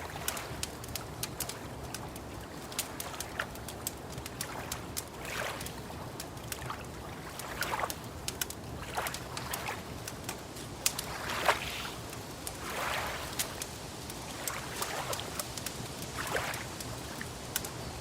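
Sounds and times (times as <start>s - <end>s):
lake waves lapping at shore: 0.0s - 17.9s
wood fire crackling and popping: 0.0s - 18.0s.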